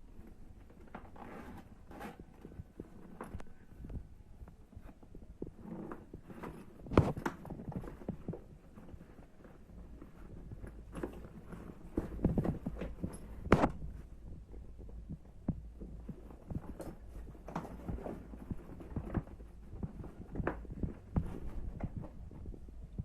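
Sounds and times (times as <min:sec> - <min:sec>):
steady low hum: 0:02.0 - 0:23.0.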